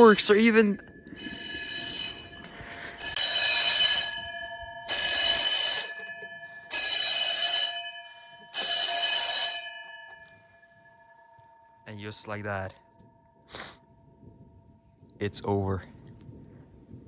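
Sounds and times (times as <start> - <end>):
electric fire alarm bells ringing: 0.0 - 14.8.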